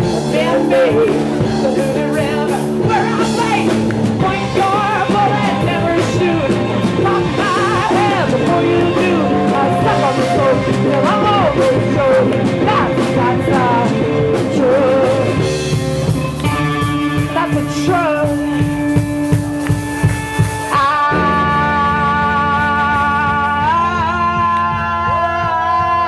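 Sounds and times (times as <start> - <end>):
person singing: 0.0 - 15.8, 17.0 - 19.7, 20.6 - 26.0
live rock band: 0.0 - 26.0.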